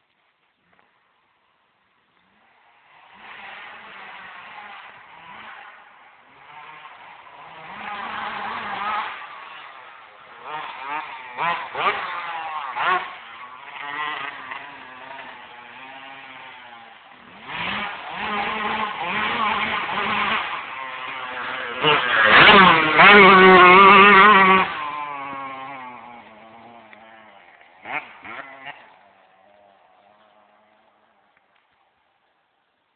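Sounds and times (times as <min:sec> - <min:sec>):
motocross bike engine revving: 0:02.3 - 0:32.0.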